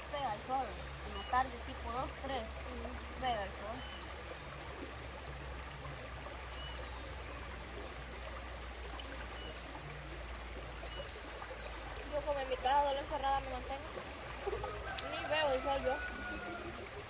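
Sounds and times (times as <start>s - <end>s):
shallow river running over rocks: 0.0s - 17.0s.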